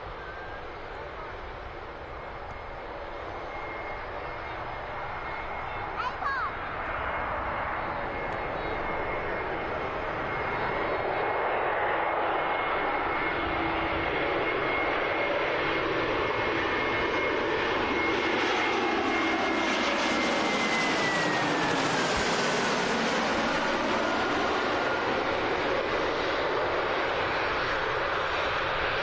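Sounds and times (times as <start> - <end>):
jet engines rumbling overhead: 0.0 - 29.0.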